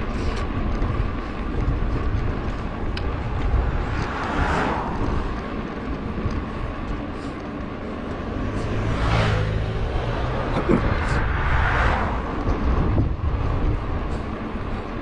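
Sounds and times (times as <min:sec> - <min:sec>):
passing vehicle: 0:00.0 - 0:15.0
wind rumbling on microphone: 0:00.0 - 0:15.0.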